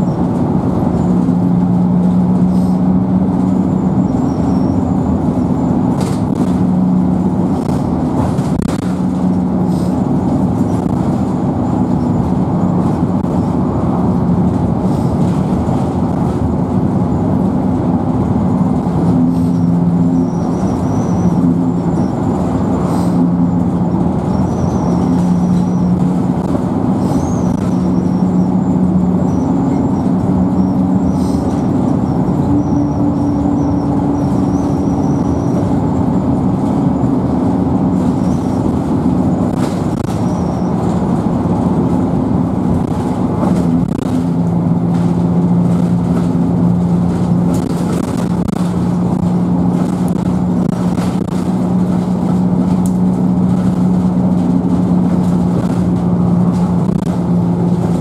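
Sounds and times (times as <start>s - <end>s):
bus diesel engine hum: 0.0s - 58.0s
road and tyre noise: 0.0s - 58.0s.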